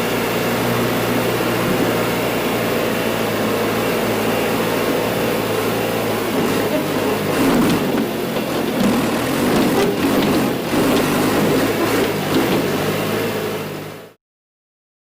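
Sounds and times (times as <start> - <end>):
loader engine droning: 0.0 - 14.2.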